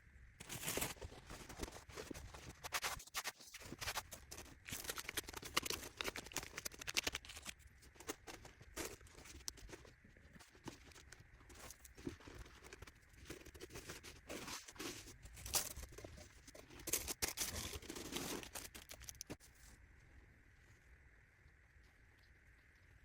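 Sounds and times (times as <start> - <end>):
packaging material rustling: 0.4 - 19.4.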